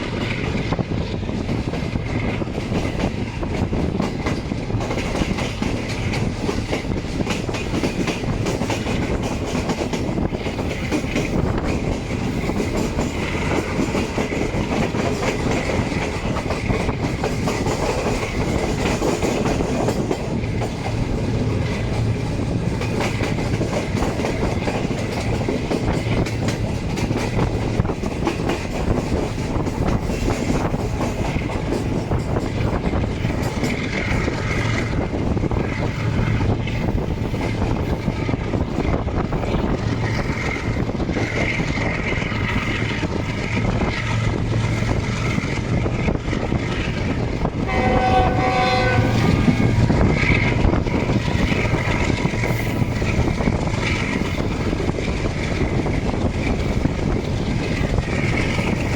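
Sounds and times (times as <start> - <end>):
train rumbling on track: 0.0 - 58.9.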